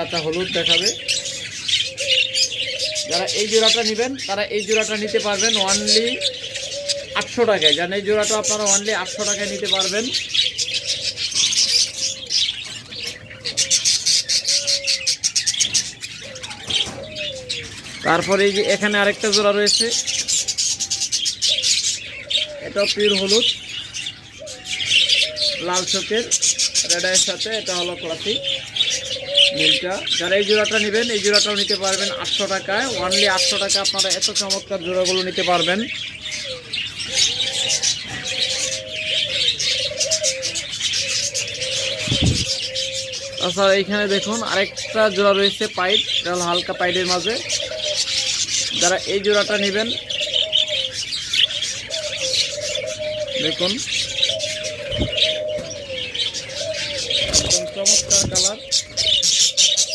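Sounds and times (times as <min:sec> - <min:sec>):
budgerigars chattering: 0:00.0 - 0:59.9
doves cooing: 0:00.0 - 0:59.9
small birds chirping: 0:00.0 - 0:59.9.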